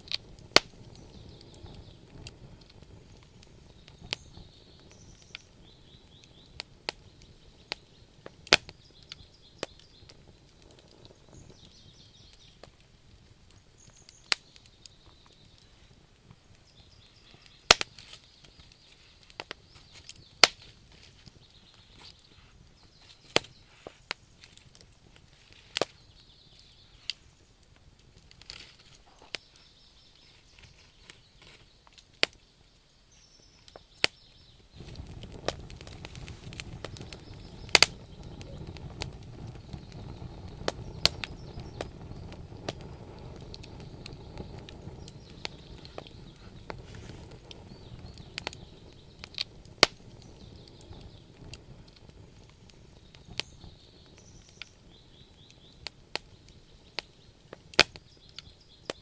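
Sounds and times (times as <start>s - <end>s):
low rumble of flames: 0.0s - 32.8s, 33.4s - 59.0s
wood fire crackling and popping: 0.0s - 59.0s.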